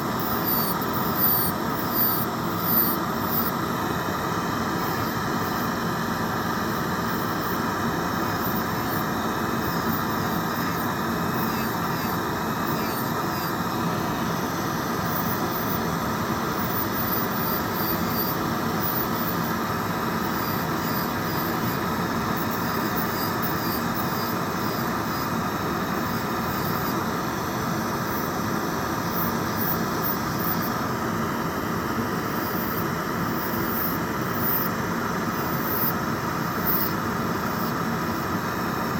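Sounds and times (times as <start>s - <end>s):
electric nail drill whining: 0.0s - 30.8s, 32.0s - 38.9s.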